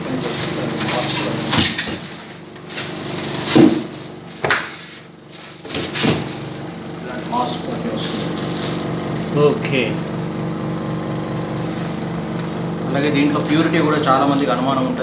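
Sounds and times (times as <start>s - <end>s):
oxygen concentrator humming: 0.0s - 15.0s.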